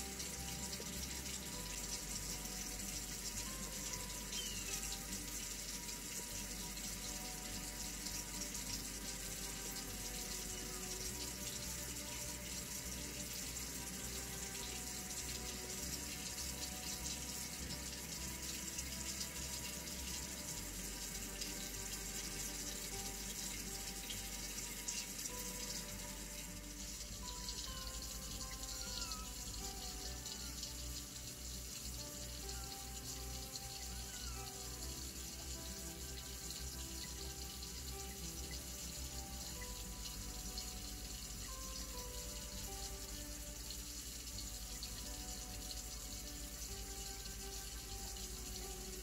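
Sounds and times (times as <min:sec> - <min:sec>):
faint soft music: 0:00.0 - 0:49.0.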